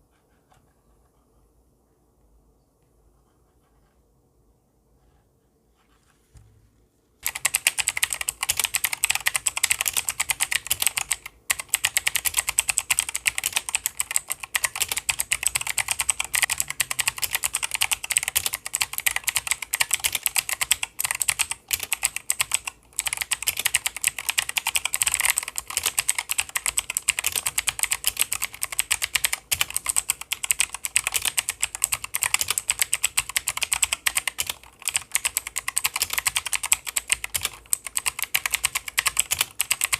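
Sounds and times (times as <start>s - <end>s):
mechanical keyboard typing: 7.2s - 39.9s.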